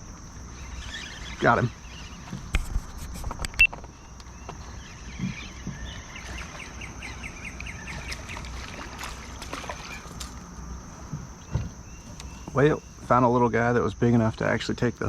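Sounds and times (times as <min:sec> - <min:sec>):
crickets droning: 0:00.0 - 0:15.0
songbird singing: 0:00.0 - 0:15.0.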